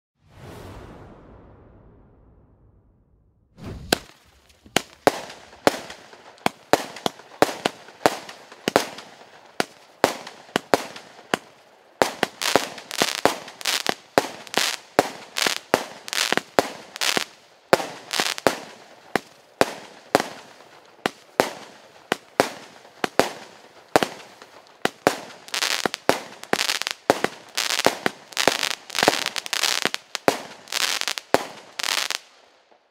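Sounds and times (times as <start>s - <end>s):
firework bangs: 3.6s - 32.3s
firework crackling: 3.6s - 32.4s.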